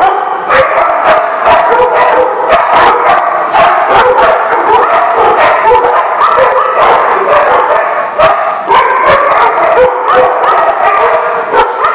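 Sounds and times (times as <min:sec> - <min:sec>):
many dogs barking: 0:00.0 - 0:11.9.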